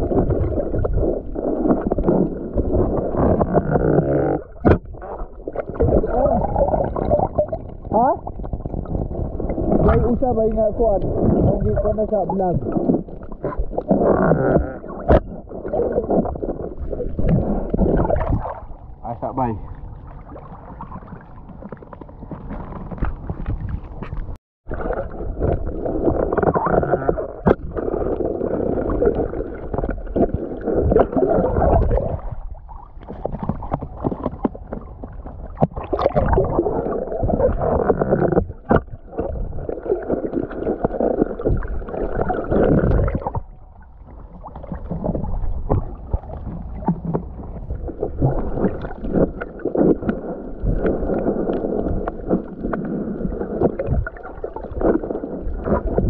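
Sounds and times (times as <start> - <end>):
muffled water sloshing and gurgling: 0.0 - 56.0.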